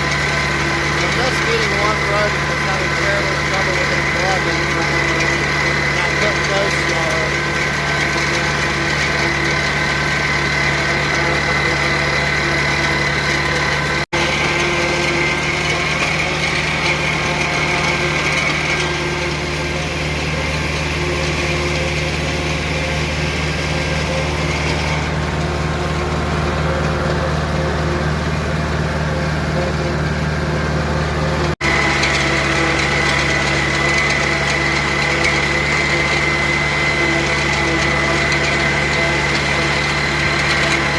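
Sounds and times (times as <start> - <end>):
tractor engine drone: 0.0 - 40.9.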